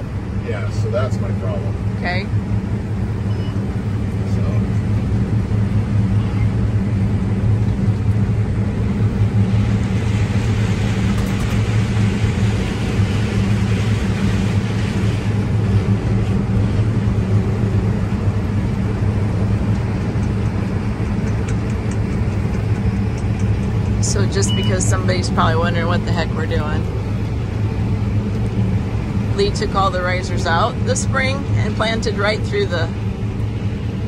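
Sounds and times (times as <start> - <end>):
combine harvester droning: 0.0 - 34.0.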